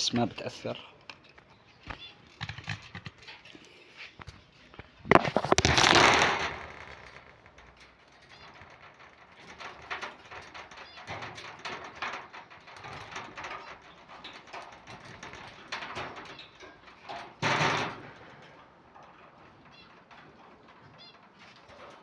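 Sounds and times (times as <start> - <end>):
wire birdcage rattling: 0.0 - 22.0.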